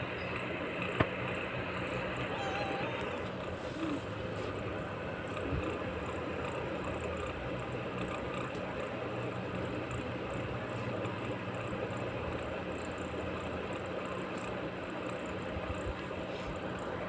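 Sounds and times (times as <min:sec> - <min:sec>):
faint high-pitched whine: 0:00.0 - 0:17.0
low hum and hiss: 0:00.0 - 0:17.0.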